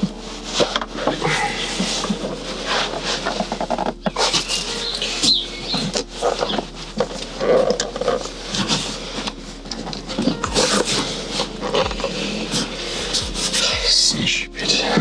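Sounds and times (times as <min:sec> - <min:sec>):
paper leaflet rustling: 0:00.0 - 0:13.7
fabric and frame rustling: 0:00.0 - 0:13.8.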